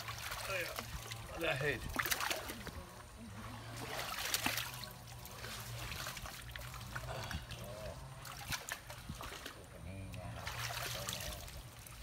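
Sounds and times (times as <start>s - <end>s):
muddy water splashing and trickling: 0.0s - 12.0s.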